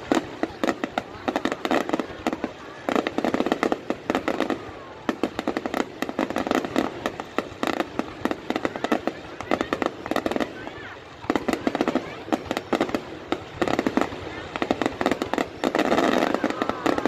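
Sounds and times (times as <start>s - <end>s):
fireworks cracking and crackling: 0.0s - 17.0s.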